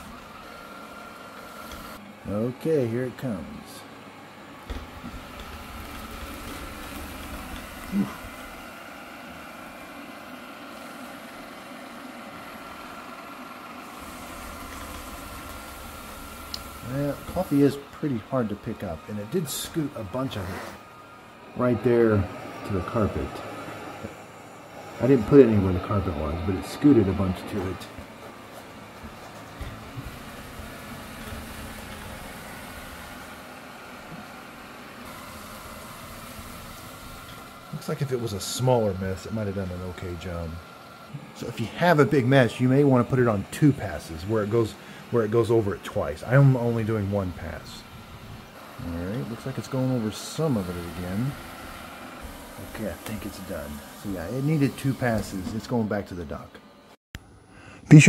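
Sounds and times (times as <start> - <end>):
robot vacuum fan hum: 0.0 - 57.0.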